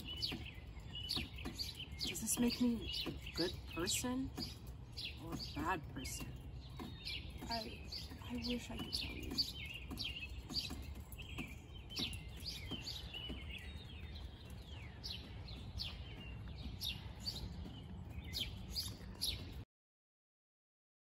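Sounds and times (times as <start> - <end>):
songbirds chirping: 0.0 - 19.7.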